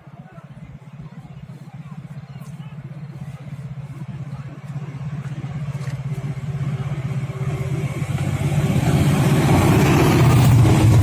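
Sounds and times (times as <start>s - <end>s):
freight train locomotive engine: 0.0s - 11.0s.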